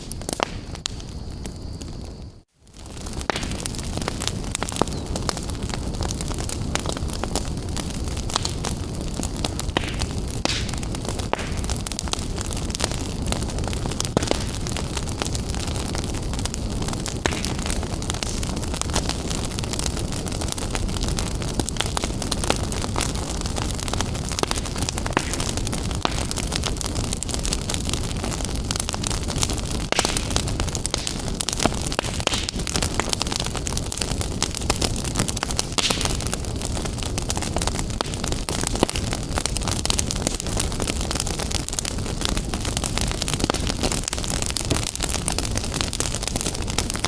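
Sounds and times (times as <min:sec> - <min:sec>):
fire crackling: 0:00.0 - 0:47.0.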